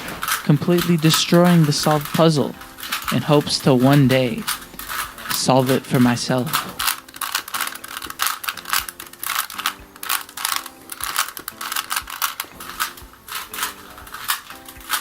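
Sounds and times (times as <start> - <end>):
puzzle cube plastic clicks: 0.0 - 15.0
soft background music: 0.0 - 15.0.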